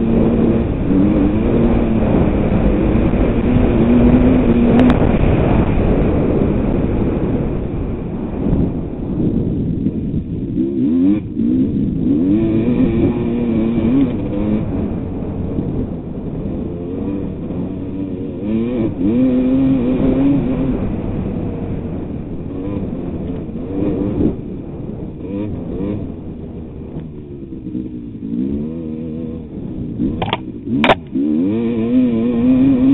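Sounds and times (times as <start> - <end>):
two-stroke dirt bike engine revving: 0.0 - 32.9.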